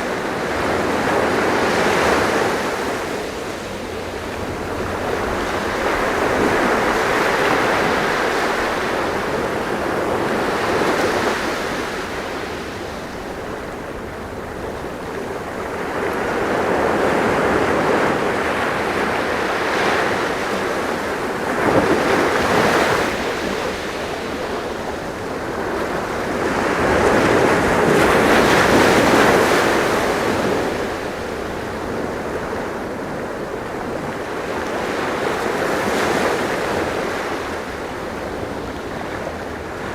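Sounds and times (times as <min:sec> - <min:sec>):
sea waves breaking on shore: 0:00.0 - 0:39.9
wind on microphone: 0:00.0 - 0:39.9.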